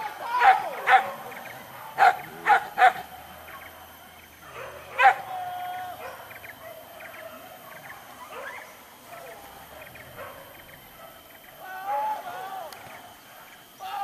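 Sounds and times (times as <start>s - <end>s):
hunting dogs barking: 0.2s - 12.5s.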